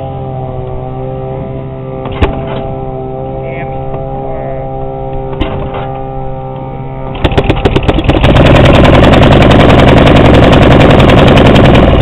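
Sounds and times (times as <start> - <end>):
outboard motor starting and running: 0.0 - 12.0.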